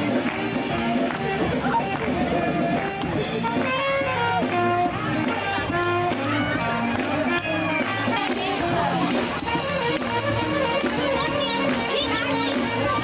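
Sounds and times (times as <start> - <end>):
bass line: 0.0 - 13.0.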